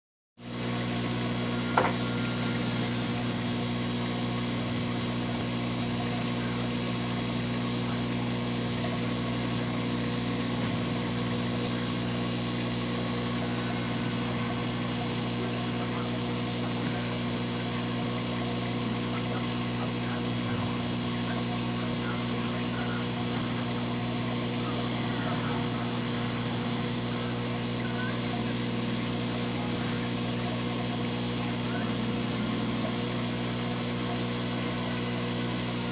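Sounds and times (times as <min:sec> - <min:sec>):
aquarium pump humming: 0:00.4 - 0:35.9.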